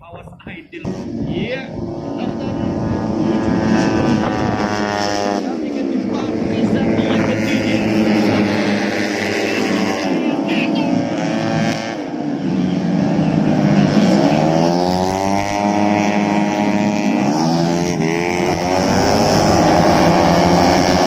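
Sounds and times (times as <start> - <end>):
race motorcycles revving: 0.0 - 21.0.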